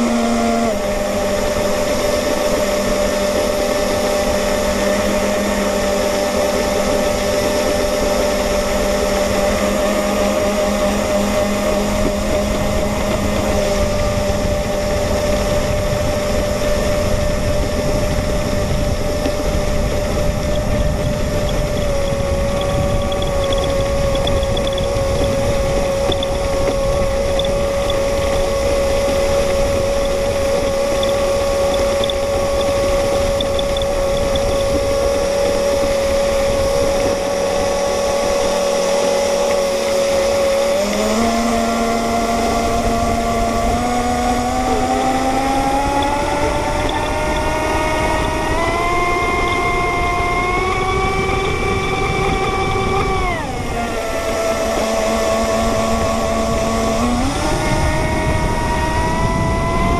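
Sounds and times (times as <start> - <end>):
boat motor whine: 0.0 - 59.9.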